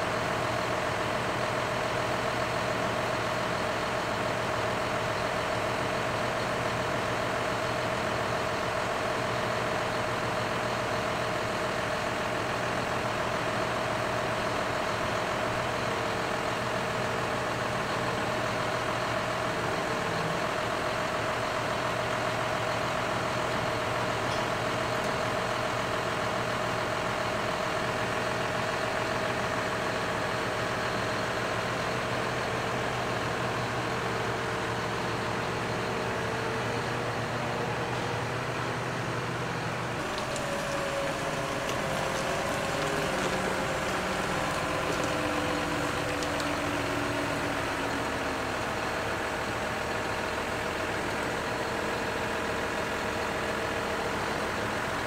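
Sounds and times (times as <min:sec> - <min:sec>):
diesel tractor engine idling: 0:00.0 - 0:55.0.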